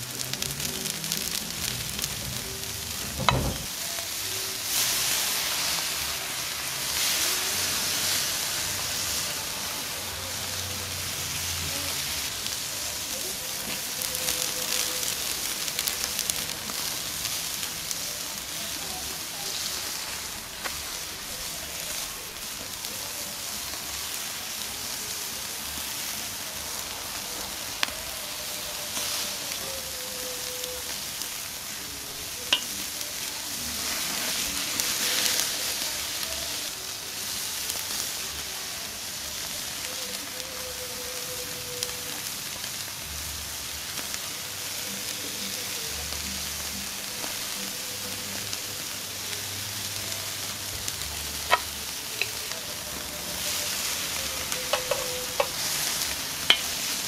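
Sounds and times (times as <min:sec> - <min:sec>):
steak sizzling on grill: 0:00.0 - 0:57.0.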